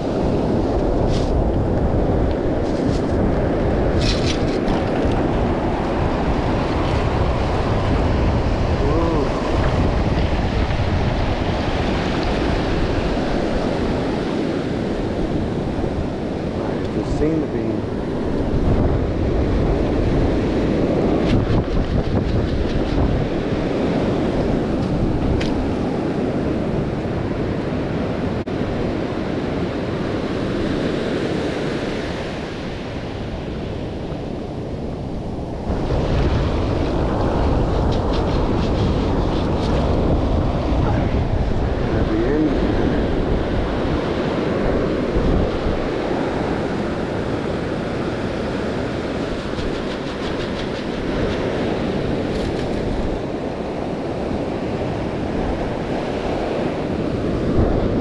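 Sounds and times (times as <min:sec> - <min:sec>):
ocean surf washing up beach: 0:00.0 - 0:58.0
wind noise on microphone: 0:00.0 - 0:58.0.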